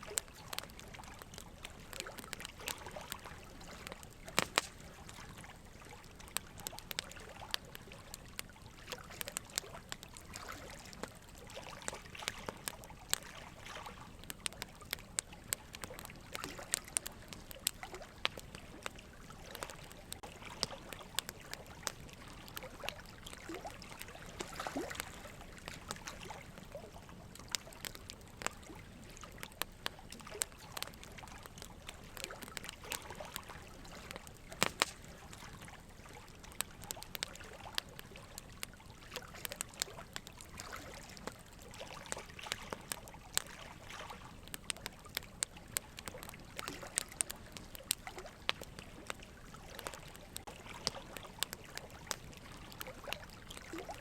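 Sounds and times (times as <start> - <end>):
small clicks and pops: 0.0 - 54.0.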